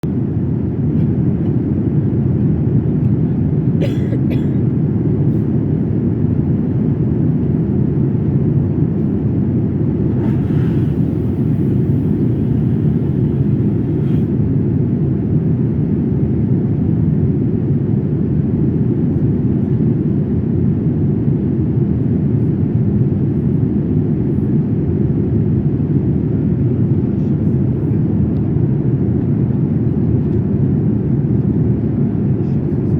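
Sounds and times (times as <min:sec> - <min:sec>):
airplane cabin rumble: 0:00.0 - 0:32.9.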